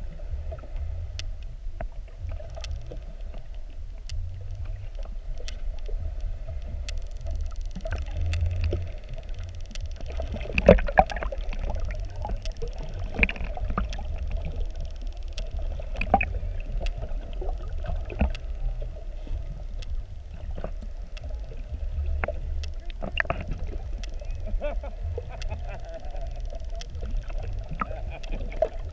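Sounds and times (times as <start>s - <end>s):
low underwater rumble and hum: 0.0s - 28.9s.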